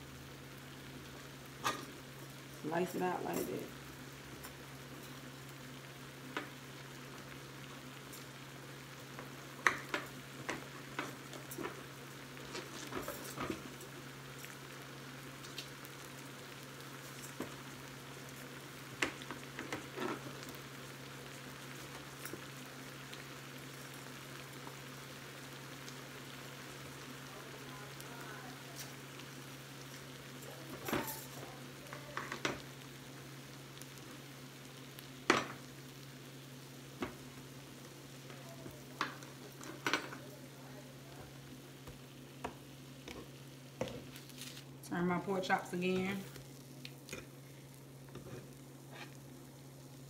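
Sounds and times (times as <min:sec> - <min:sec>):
meat sizzling on a grill: 0:00.0 - 0:50.0.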